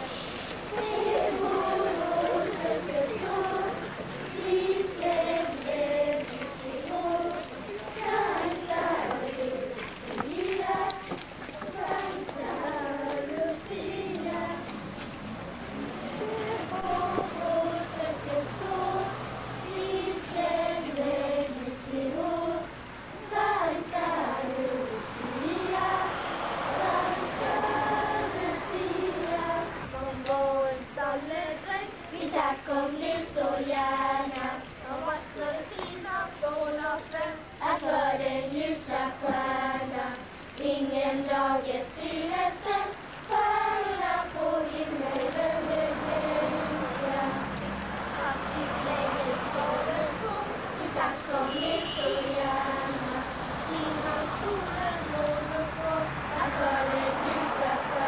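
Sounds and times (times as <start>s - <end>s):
children singing together: 0.0s - 14.8s, 16.1s - 58.0s.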